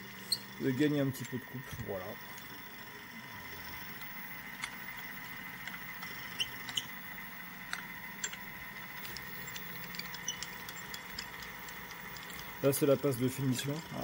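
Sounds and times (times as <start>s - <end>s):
milling machine spindle whine: 0.0s - 14.0s.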